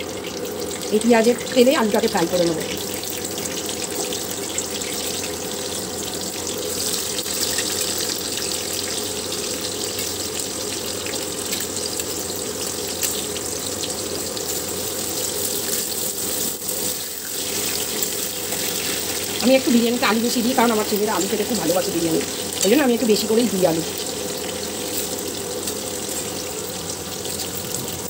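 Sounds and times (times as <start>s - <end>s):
potatoes sizzling in oil: 0.0s - 28.0s.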